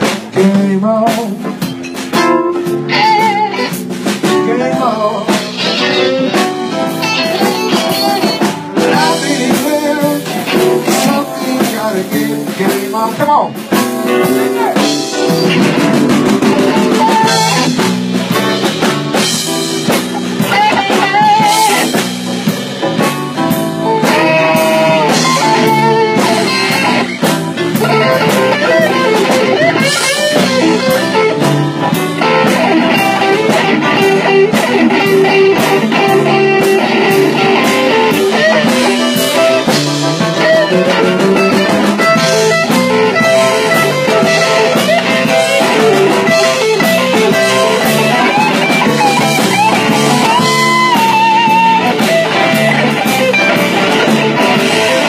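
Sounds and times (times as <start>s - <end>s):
drum kit: 0.0s - 55.0s
electric guitar: 0.0s - 55.0s
keyboard: 0.0s - 55.0s.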